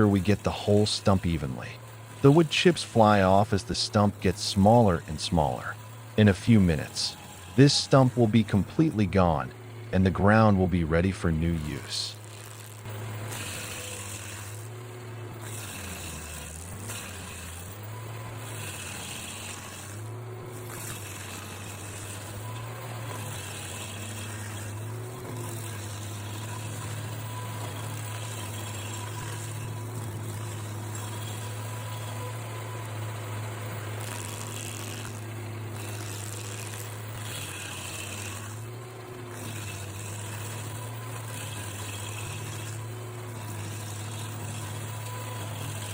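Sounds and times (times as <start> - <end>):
stump grinder grinding: 0.0 - 45.9.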